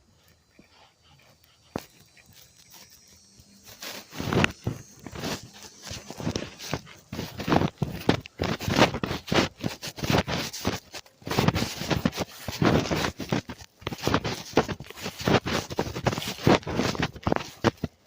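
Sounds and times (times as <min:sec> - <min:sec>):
close scraping and rustling: 0:00.2 - 0:18.0.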